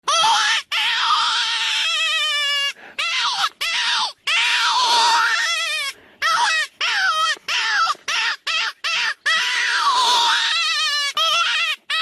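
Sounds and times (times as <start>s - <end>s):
jackal yelping calls: 0.1s - 12.0s
jackals howling: 0.1s - 12.0s.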